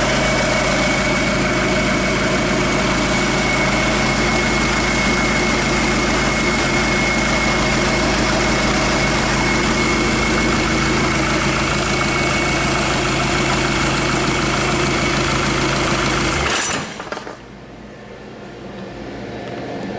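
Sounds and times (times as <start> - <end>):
diesel engine idling: 0.0 - 16.4.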